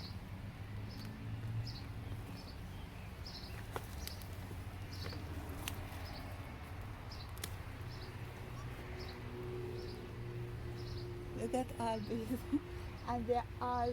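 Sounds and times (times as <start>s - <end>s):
bird chirping: 0.0s - 13.8s.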